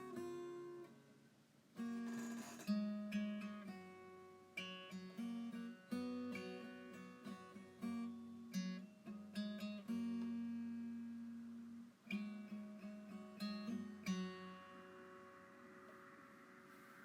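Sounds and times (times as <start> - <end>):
acoustic guitar strumming chords: 1.8 - 17.0.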